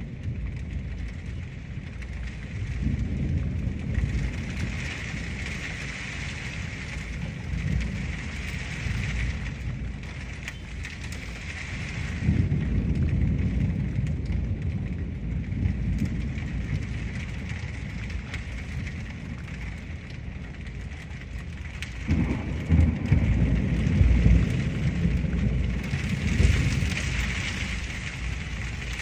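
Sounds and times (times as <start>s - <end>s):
deep uneven rumble: 0.0s - 29.0s
heavy rain: 0.0s - 29.0s.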